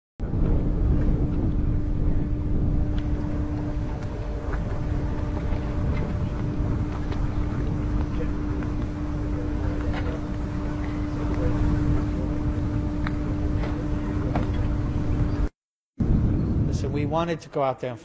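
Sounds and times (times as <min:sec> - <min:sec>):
boat machinery humming: 0:00.2 - 0:16.7.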